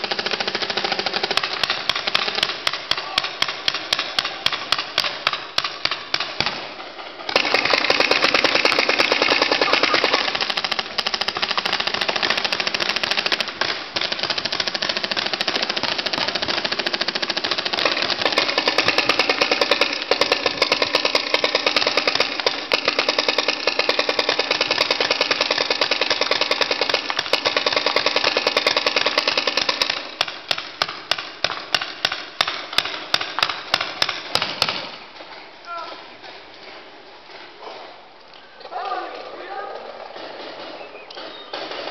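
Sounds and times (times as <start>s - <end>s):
paintball markers firing: 0.0s - 37.8s, 39.7s - 41.9s.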